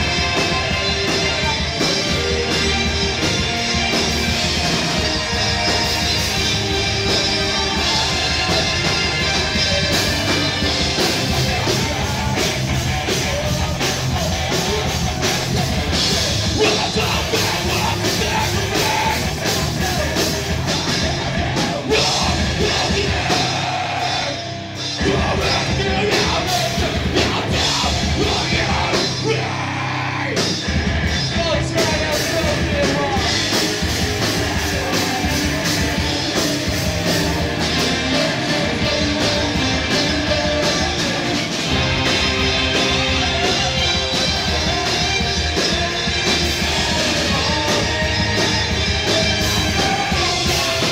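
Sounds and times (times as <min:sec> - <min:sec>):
live punk rock band: 0:00.0 - 0:50.9
shouted vocals: 0:00.0 - 0:50.9.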